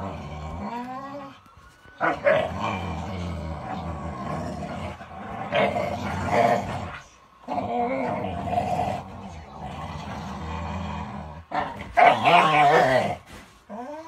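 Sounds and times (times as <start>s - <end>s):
dogs growling: 0.0s - 1.4s, 2.0s - 14.0s.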